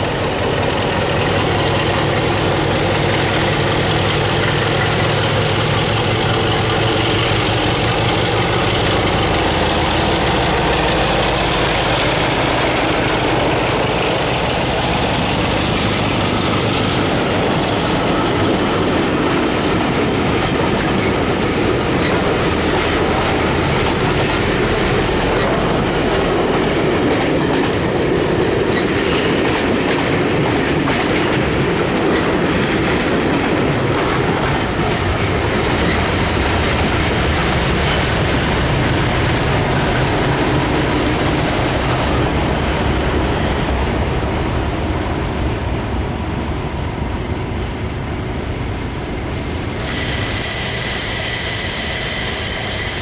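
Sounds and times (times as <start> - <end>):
train wheels clattering over rail joints: 0.0 - 44.8
diesel locomotive engine: 0.0 - 53.0.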